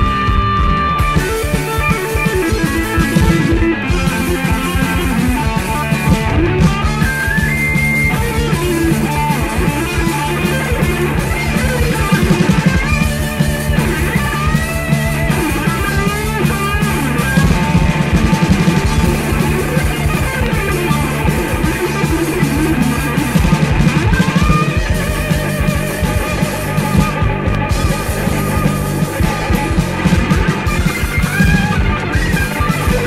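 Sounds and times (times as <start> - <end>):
guitar bending notes: 0.0 - 33.0
heavy metal instrumental: 0.0 - 33.0.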